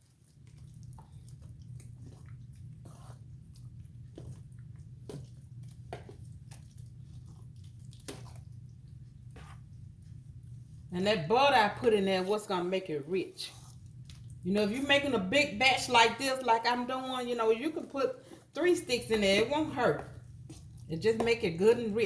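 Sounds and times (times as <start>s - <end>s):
spoon stirring thick wet mixture: 0.0s - 22.0s.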